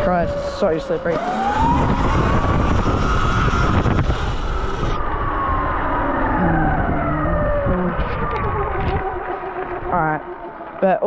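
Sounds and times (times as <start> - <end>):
motorbike engine revving: 0.0 - 11.0
wind noise on microphone: 0.0 - 11.0.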